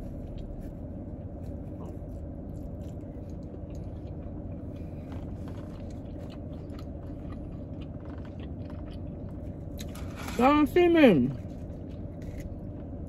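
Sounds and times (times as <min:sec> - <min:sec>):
person chewing a sandwich: 0:00.0 - 0:10.4, 0:11.3 - 0:13.0
steady low hum: 0:00.0 - 0:13.0.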